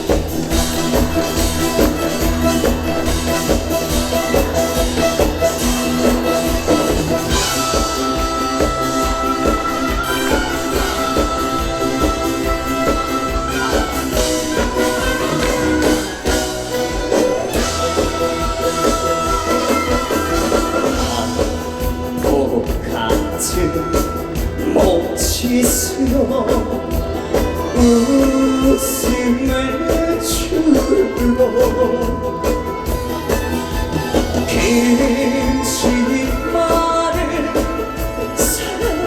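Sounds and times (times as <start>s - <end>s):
held melody line: 0.0s - 39.0s
instrumental backing music: 0.0s - 39.0s
steady drum beat: 0.0s - 39.0s.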